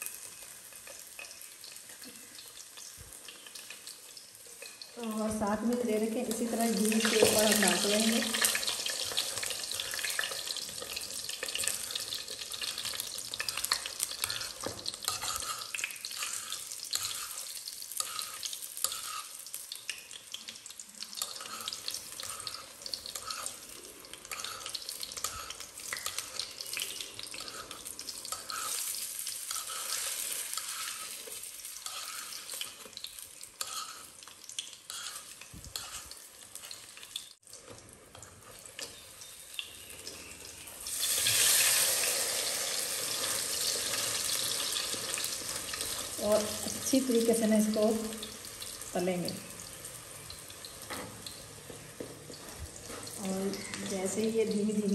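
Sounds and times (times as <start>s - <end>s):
bread sizzling in hot fat: 0.0s - 54.9s
spoon stirring in fat: 2.7s - 54.2s.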